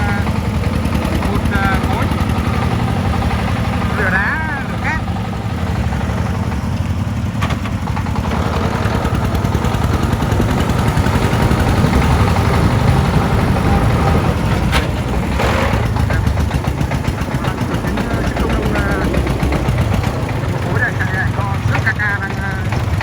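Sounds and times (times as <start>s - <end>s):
diesel engine chugging: 0.0s - 23.0s.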